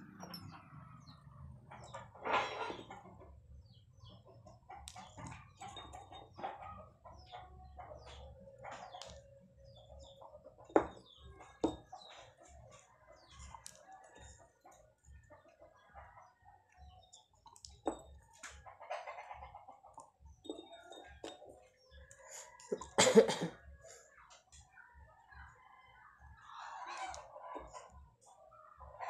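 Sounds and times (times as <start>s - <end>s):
chickens clucking: 0.5s - 23.0s, 26.4s - 29.0s.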